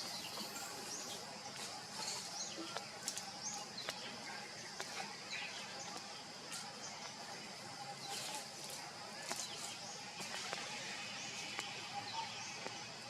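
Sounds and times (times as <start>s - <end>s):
birds chirping: 0.0s - 13.0s
high-pitched hiss: 0.0s - 13.0s.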